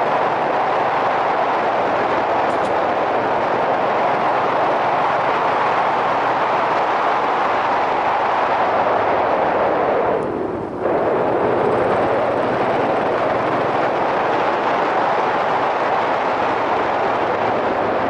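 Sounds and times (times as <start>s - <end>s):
wind rushing over camera: 0.0s - 18.0s.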